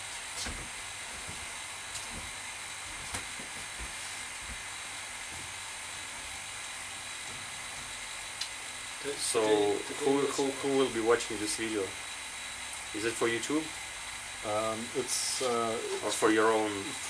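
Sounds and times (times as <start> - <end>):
vacuum pump hiss and hum: 0.0 - 17.0.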